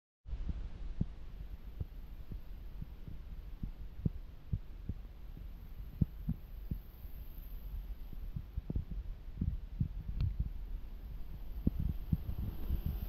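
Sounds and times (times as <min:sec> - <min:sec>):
footsteps soft low thuds: 0:00.3 - 0:13.0
steady low rumble: 0:00.3 - 0:13.0.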